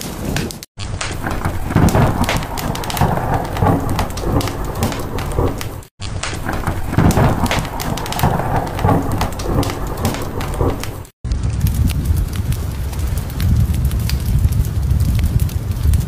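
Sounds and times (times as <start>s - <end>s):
rain falling: 0.0s - 16.0s
thunder rumbling: 0.0s - 16.0s
wood fire crackling: 0.0s - 16.0s.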